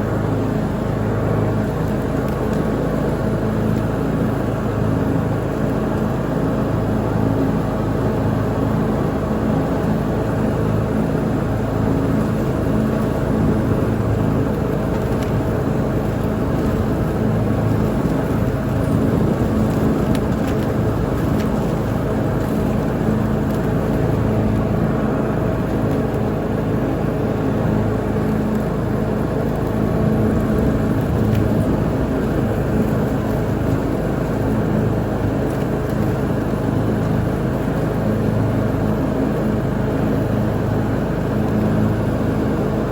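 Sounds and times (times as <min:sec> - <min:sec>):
lawn mower engine running: 0:00.0 - 0:42.9.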